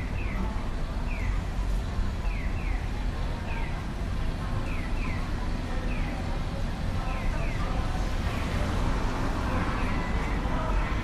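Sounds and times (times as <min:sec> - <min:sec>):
low street traffic rumble: 0:00.0 - 0:11.0.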